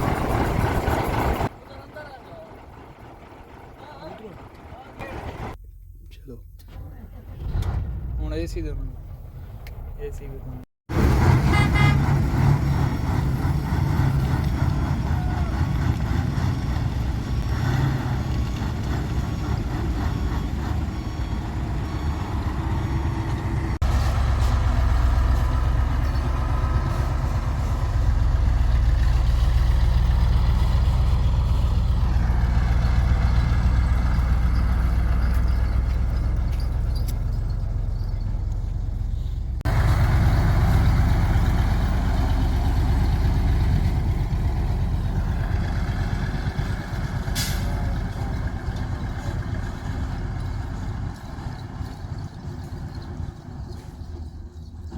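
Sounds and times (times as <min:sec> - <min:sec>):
excavator diesel engine: 0:00.0 - 0:05.6, 0:06.8 - 0:54.9.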